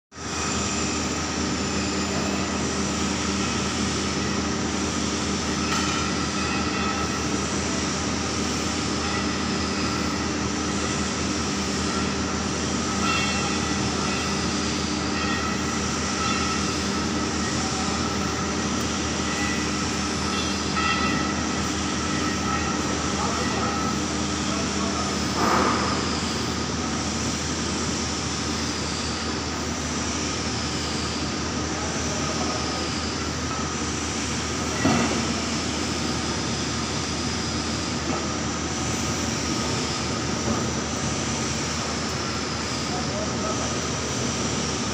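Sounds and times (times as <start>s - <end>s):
brief loud machine noise: 0.2s - 44.9s
lathe running: 0.2s - 44.9s.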